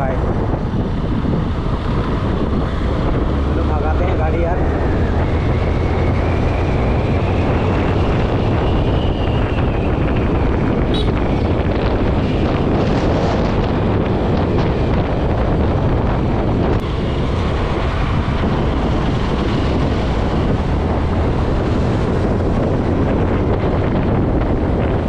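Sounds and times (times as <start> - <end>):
scooter road noise: 0.0 - 25.0
wind rushing over microphone: 0.0 - 25.0.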